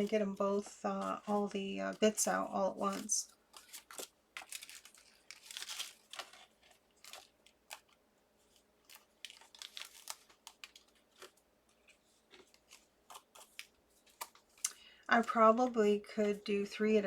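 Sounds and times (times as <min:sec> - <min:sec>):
paper rustling and crinkling: 0:00.0 - 0:16.5.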